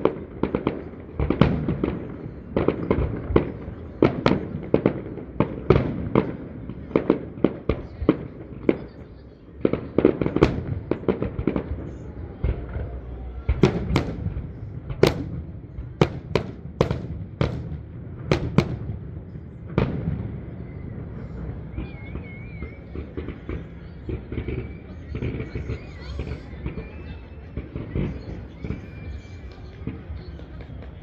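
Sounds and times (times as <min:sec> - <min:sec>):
fireworks bangs and cracks: 0:00.0 - 0:31.0.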